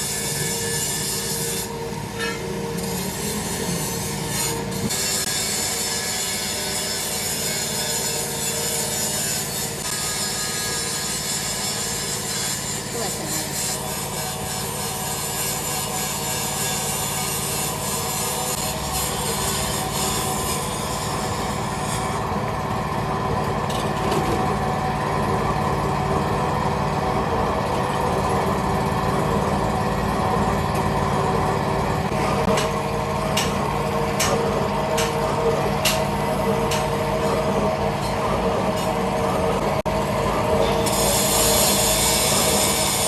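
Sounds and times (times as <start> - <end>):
factory machinery humming: 0.0 - 43.0.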